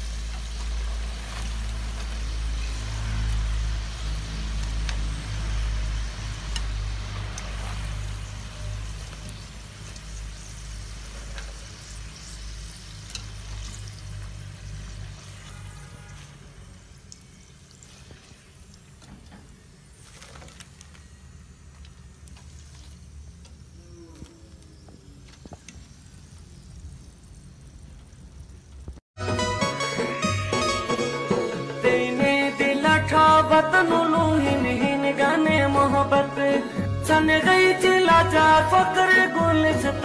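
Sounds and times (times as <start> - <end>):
hot oil sizzling: 0.0 - 40.0.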